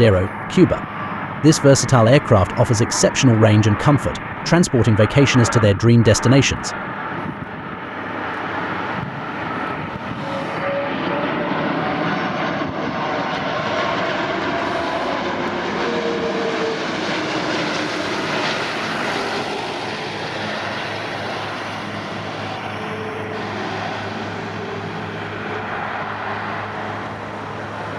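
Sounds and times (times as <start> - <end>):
faint whining tones: 0.0 - 27.9
jet engines roaring: 0.0 - 27.9.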